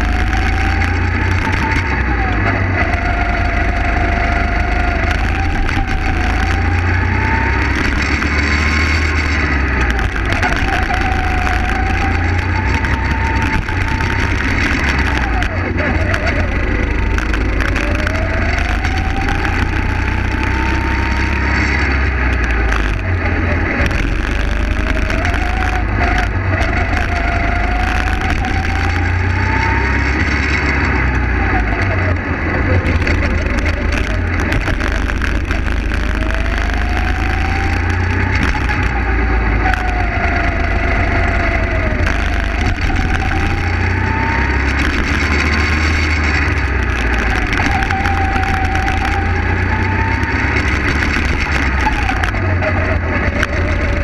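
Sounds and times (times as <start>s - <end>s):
go-kart engine accelerating: 0.0s - 54.0s
low rumble: 0.0s - 54.0s.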